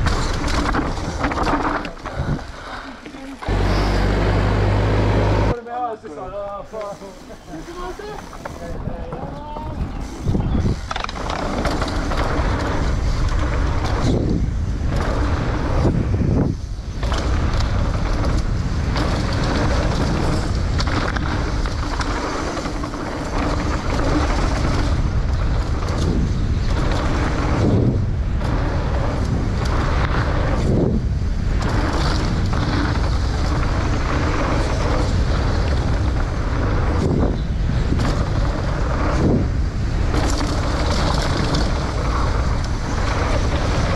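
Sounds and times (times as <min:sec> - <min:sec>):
wind rushing over microphone: 0:00.0 - 0:02.8, 0:08.2 - 0:43.9
bike tyres rolling on dirt trail: 0:00.0 - 0:43.9.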